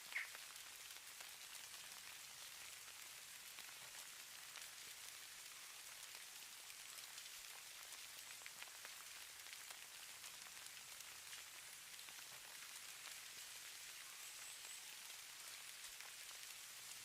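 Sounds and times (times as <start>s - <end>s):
snow pattering on a surface: 0.0s - 17.0s.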